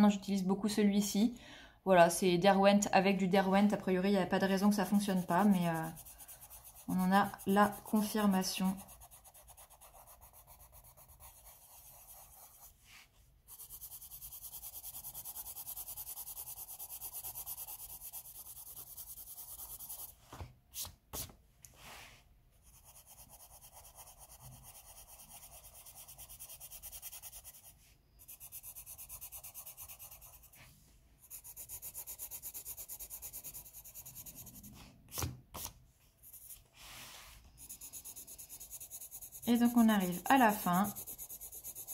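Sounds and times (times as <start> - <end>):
pencil rubbing on paper: 4.4 - 20.2, 22.6 - 35.0, 35.6 - 41.9.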